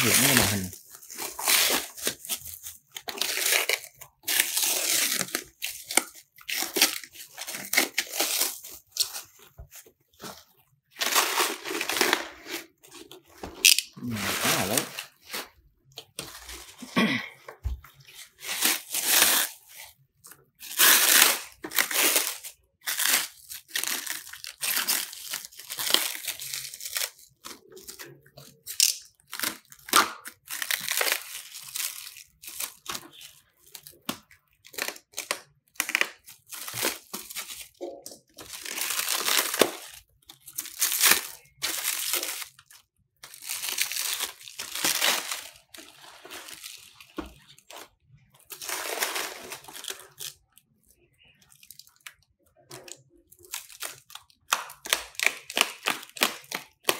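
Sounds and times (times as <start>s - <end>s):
plastic wrap crinkling and tearing: 0.0s - 56.9s.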